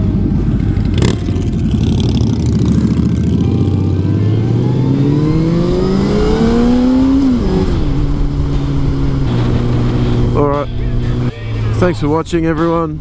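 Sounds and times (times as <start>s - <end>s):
motorcycle engine accelerating: 0.0s - 11.3s.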